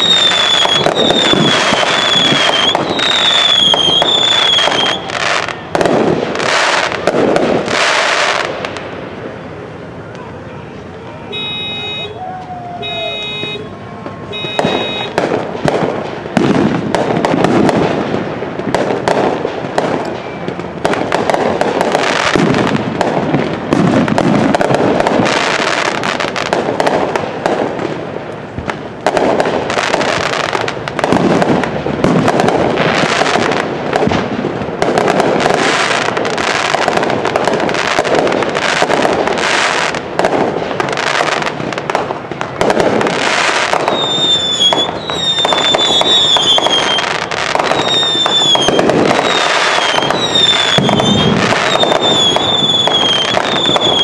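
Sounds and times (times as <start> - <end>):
fireworks bangs and crackle: 0.0 - 54.0.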